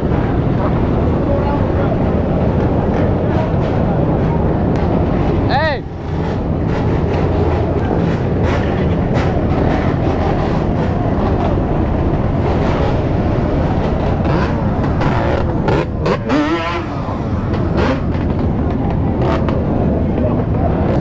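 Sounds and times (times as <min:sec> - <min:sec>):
pack of motorcycle engines: 0:00.0 - 0:21.0
engine revving: 0:02.9 - 0:21.0.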